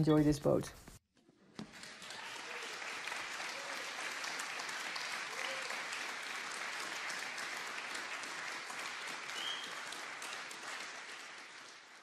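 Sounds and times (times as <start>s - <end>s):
crowd applauding: 1.2s - 12.0s.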